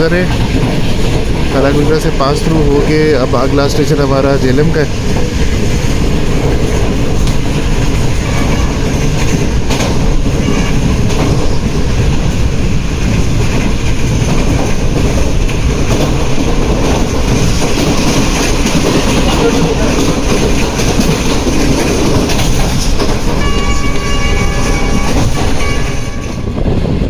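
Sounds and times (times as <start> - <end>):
track clickety-clack: 0.0 - 27.0
train wheel and rail noise: 0.0 - 27.0.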